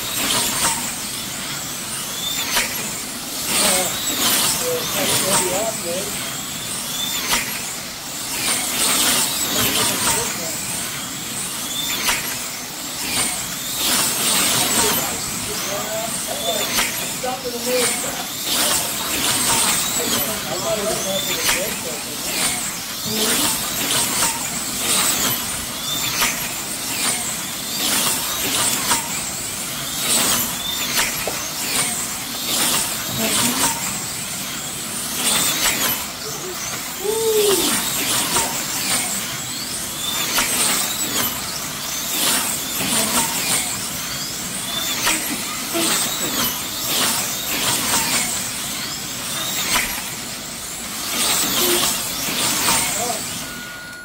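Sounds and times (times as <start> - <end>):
slot cars motor whine: 0.0 - 54.0
slot cars zipping past: 0.0 - 54.0.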